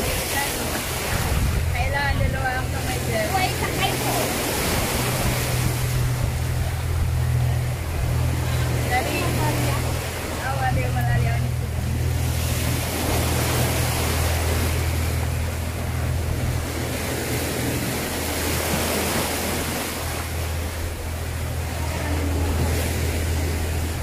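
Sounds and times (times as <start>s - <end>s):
waves breaking against rocks: 0.0s - 24.0s
wind rumbling on microphone: 0.0s - 24.0s.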